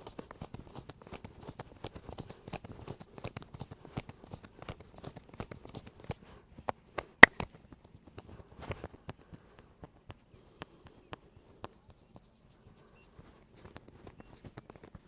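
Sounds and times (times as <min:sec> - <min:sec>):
hands slapping and tapping on body: 0:00.2 - 0:15.0.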